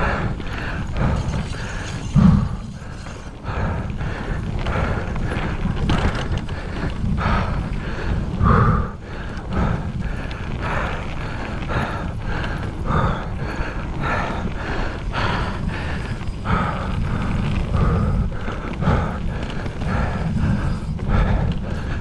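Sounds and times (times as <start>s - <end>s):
bike clattering over rough ground: 0.0s - 22.0s
wind and tyre rumble: 0.0s - 22.0s.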